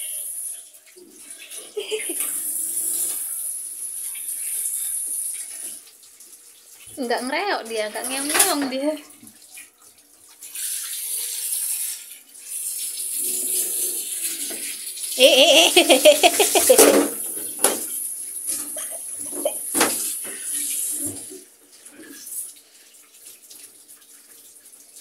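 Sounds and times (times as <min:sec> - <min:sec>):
shower water running: 0:00.0 - 0:25.0.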